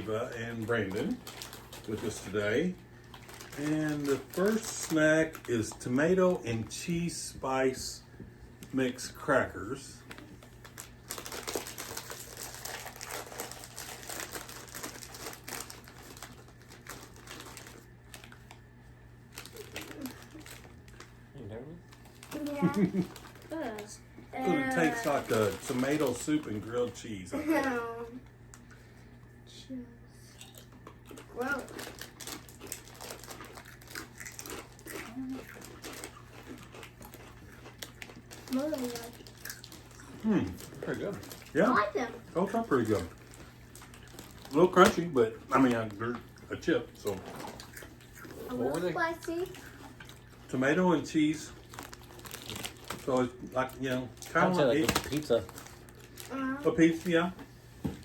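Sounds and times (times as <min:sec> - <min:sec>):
crackers being chewed: 0:00.0 - 0:06.7, 0:08.6 - 0:27.0, 0:30.3 - 0:50.6, 0:51.2 - 0:57.5
snack packet crinkling: 0:00.0 - 0:07.8, 0:09.0 - 0:21.2, 0:21.8 - 0:27.6, 0:30.4 - 0:57.4.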